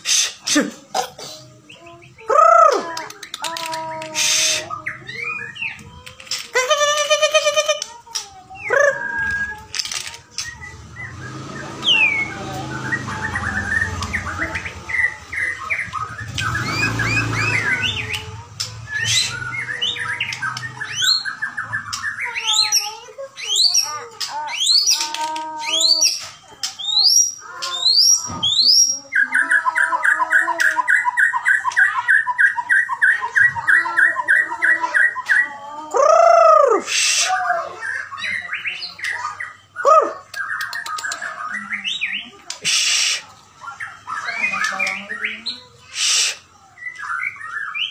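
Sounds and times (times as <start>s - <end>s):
songbird singing: 1.2s - 47.9s.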